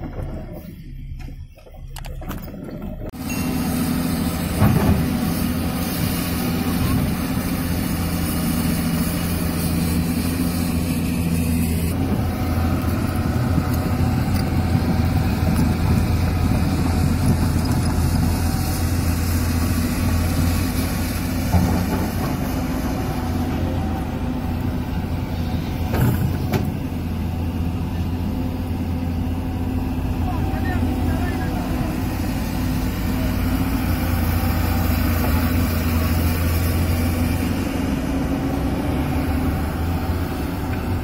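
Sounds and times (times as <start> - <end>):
excavator diesel engine droning: 0.0 - 41.0.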